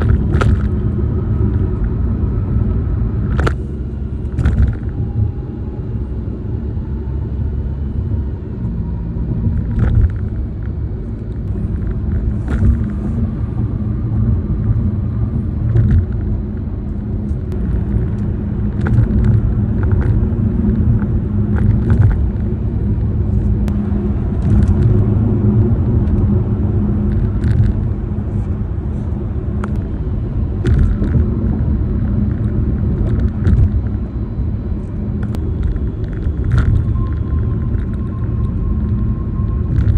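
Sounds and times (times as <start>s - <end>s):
tyre and road rumble: 0.0s - 39.9s.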